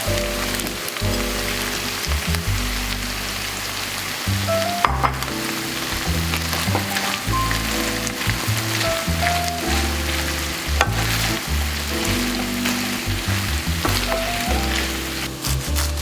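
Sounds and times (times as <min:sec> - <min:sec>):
food sizzling in a pan: 0:00.0 - 0:16.0
stirring: 0:00.4 - 0:16.0.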